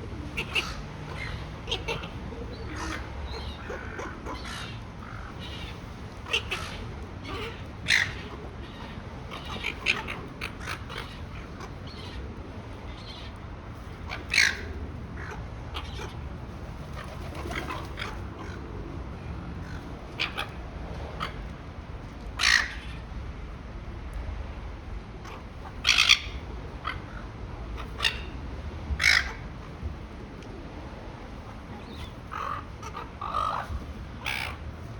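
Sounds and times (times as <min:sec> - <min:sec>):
low background noise: 0:00.0 - 0:34.9
gulls squawking: 0:00.1 - 0:21.5, 0:25.2 - 0:30.0, 0:31.2 - 0:34.9.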